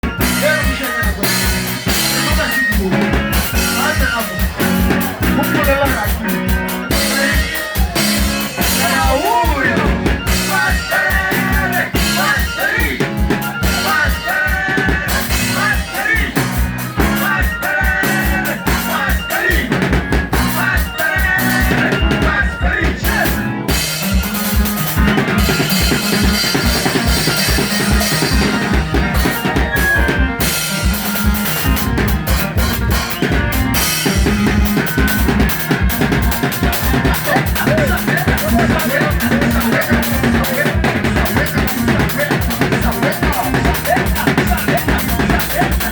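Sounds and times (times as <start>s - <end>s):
band music: 0.0s - 45.9s
drum kit beat: 0.0s - 45.9s.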